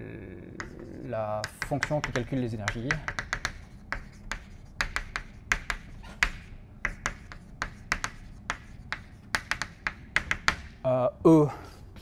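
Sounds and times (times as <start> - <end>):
chalk tapping and scratching on board: 0.6 - 10.8.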